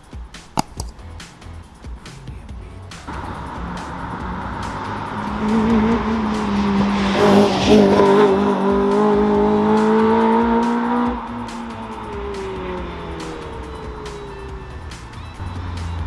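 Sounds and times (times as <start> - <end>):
car engine accelerating past: 3.0 - 16.0.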